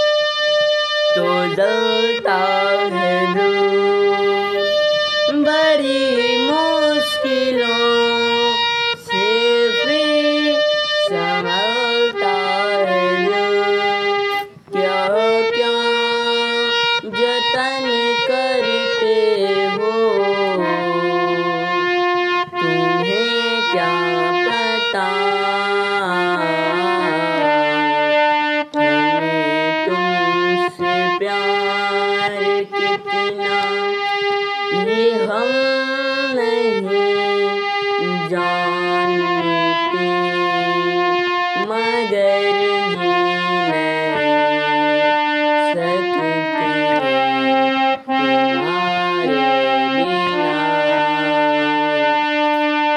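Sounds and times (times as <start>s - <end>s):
harmonium chords: 0.0s - 52.9s
boy singing: 1.1s - 52.9s.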